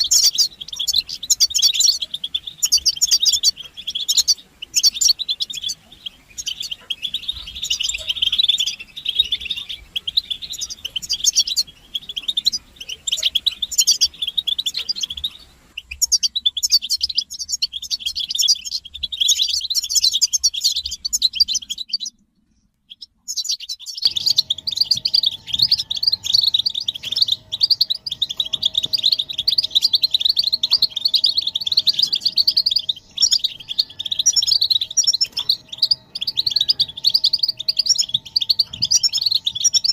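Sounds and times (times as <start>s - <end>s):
goldfinches chattering and twittering: 0.0s - 22.2s, 22.8s - 39.9s.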